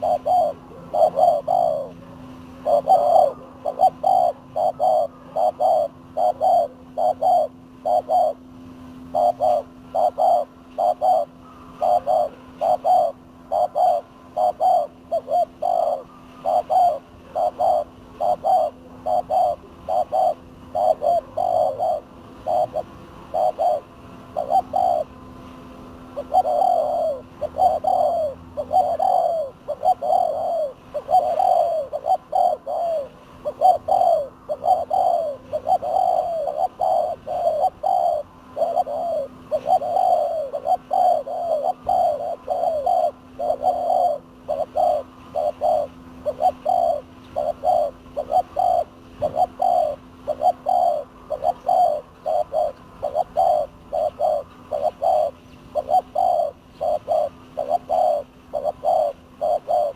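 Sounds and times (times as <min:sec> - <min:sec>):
doves cooing: 0:00.0 - 0:59.9
faint steady hum: 0:00.0 - 0:59.9.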